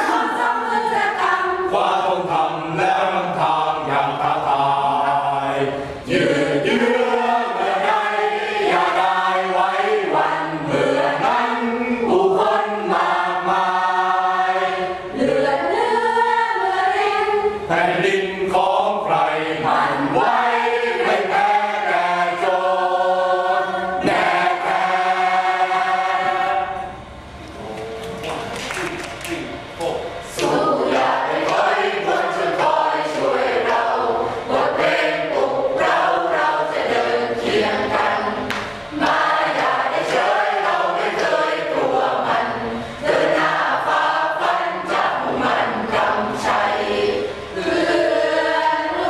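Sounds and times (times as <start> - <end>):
mixed choir singing: 0.0 - 49.0.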